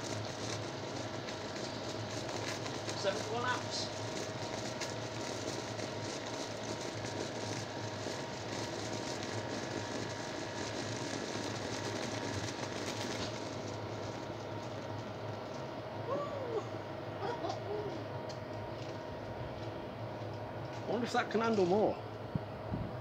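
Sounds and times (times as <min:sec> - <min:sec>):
battery venting steam hiss: 0:00.0 - 0:19.9
mains transformer buzzing: 0:00.0 - 0:23.0.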